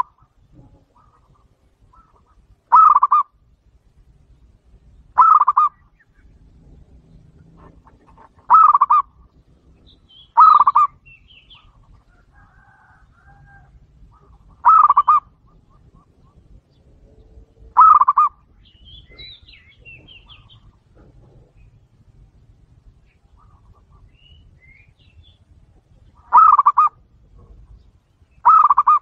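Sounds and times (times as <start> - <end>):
dove cooing: 0.0 - 3.6, 4.7 - 29.0
small birds chirping: 0.0 - 29.0.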